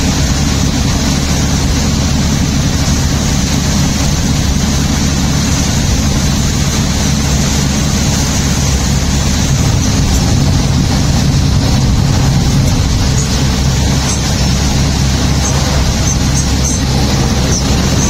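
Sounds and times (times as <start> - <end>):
rain and spray rushing: 0.0 - 18.0
road and tyre noise: 0.0 - 18.0.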